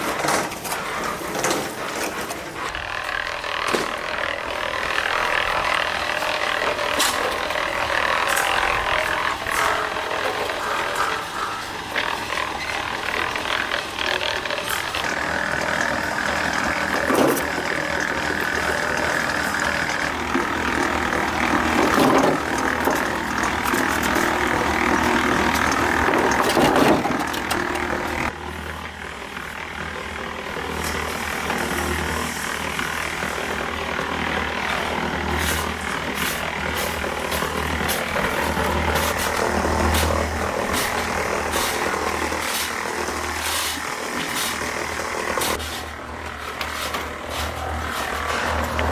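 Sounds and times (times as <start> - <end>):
engine running: 0.0 - 48.9.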